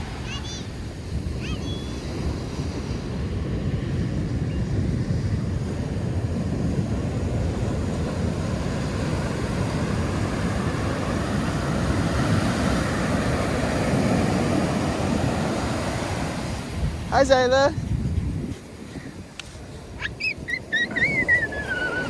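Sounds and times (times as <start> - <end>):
ocean surf washing onto beach: 0.0 - 22.0
wind rumbling on microphone: 0.0 - 22.0.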